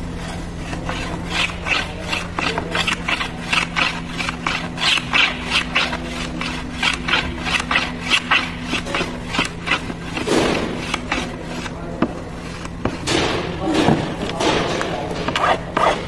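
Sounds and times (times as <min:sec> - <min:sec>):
hand plane rasping on wood: 0:00.0 - 0:13.1, 0:15.2 - 0:16.0
steady low hum: 0:00.0 - 0:16.0.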